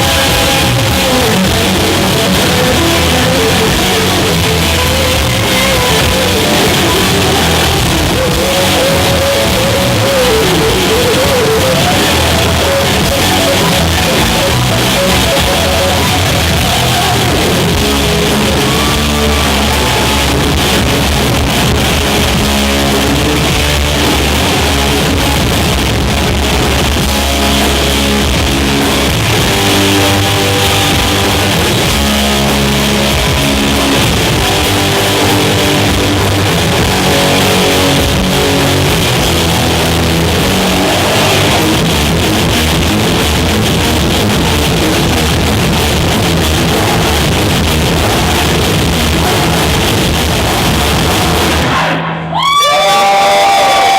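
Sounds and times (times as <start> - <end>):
electric guitar riffs: 0.0 - 53.9
live rock band playing: 0.0 - 53.9.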